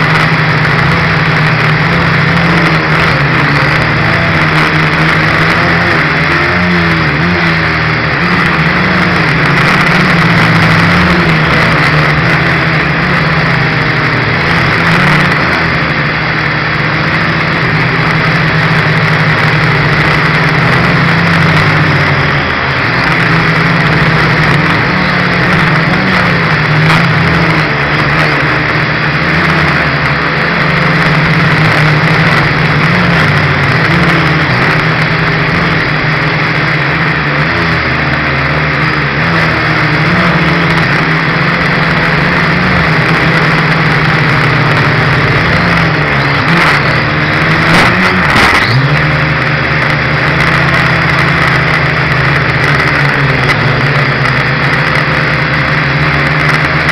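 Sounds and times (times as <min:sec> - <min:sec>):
quadcopter propellers buzzing: 0:00.0 - 0:56.9.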